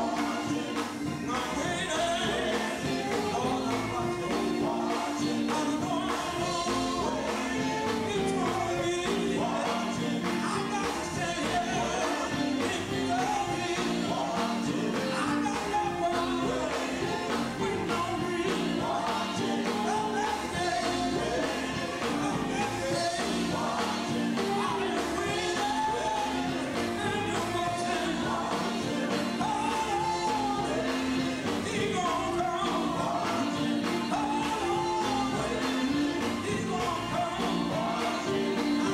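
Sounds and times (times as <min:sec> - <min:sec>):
drums with steady beat: 0:00.0 - 0:38.9
electric guitars: 0:00.0 - 0:38.9
gospel group singing: 0:00.0 - 0:38.9.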